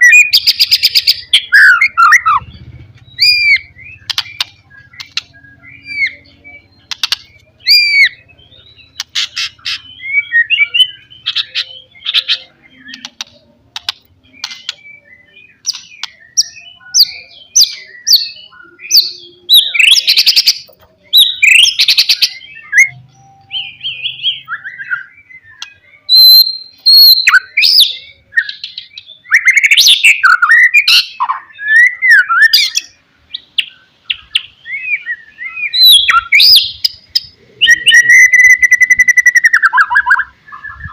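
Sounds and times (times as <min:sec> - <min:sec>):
bird singing varied whistles and trills: 0:00.0 - 0:40.9.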